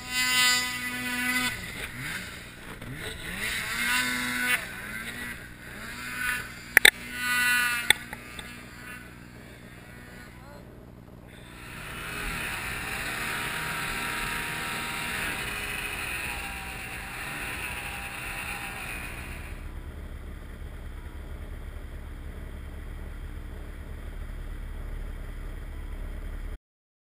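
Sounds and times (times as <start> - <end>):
snowmobile engine at high revs: 0.0 - 26.6.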